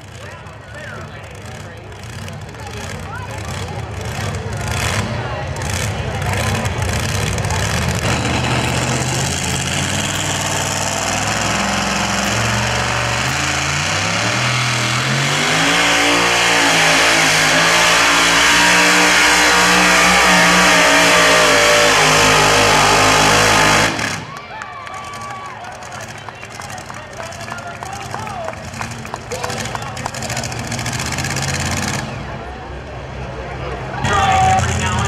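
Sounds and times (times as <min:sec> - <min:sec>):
truck engine revving hard: 0:00.0 - 0:24.4, 0:25.0 - 0:35.0.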